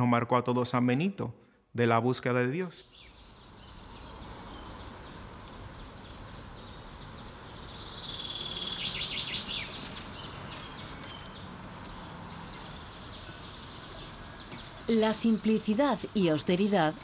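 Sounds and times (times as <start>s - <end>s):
background hiss: 0.0s - 17.0s
small birds chirping: 2.8s - 17.0s.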